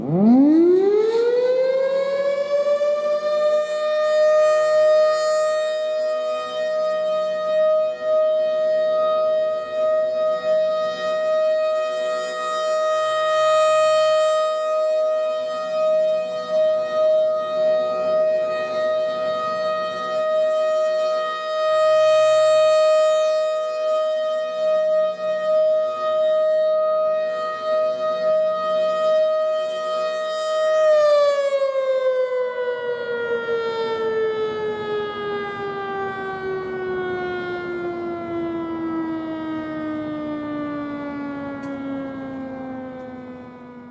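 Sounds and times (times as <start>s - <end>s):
alert siren wailing: 0.0s - 43.9s.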